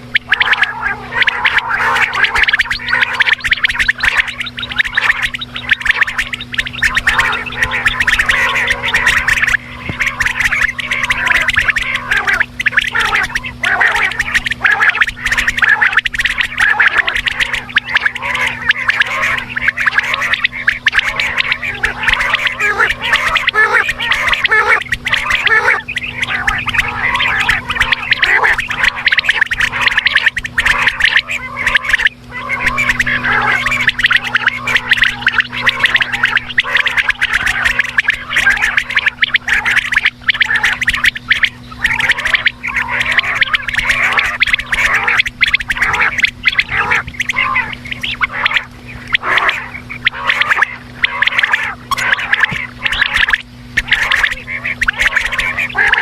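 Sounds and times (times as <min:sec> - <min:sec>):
quail chattering: 0:00.0 - 0:56.0
steady low hum: 0:00.0 - 0:56.0.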